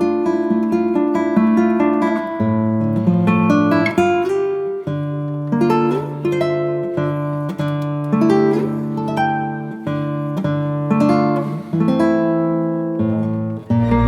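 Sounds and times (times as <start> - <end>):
acoustic guitar melody: 0.0 - 14.0.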